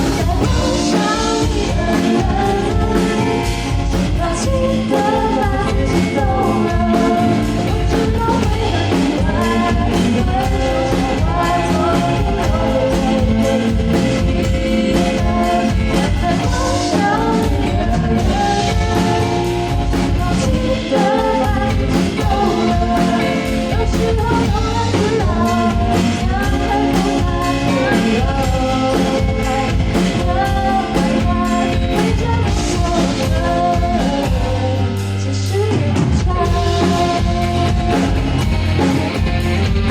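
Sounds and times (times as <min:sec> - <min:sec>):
lead vocal singing: 0:00.0 - 0:39.9
pop-rock band playing: 0:00.0 - 0:39.9.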